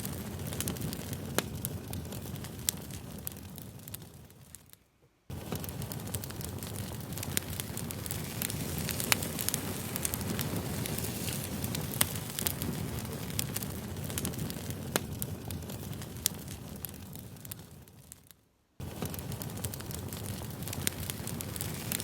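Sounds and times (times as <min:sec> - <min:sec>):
campfire crackling: 0:00.0 - 0:22.0
pops and snaps of fire: 0:00.0 - 0:22.0.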